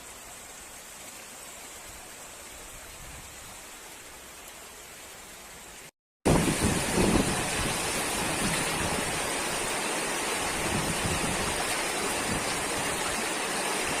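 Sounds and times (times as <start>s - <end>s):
water rushing: 0.0s - 14.0s.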